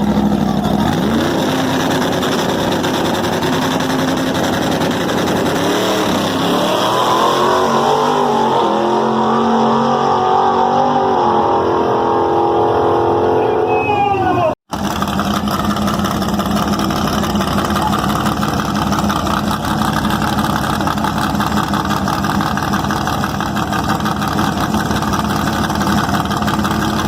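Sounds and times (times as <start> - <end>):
car engine revving: 0.0 - 13.6, 14.7 - 27.0.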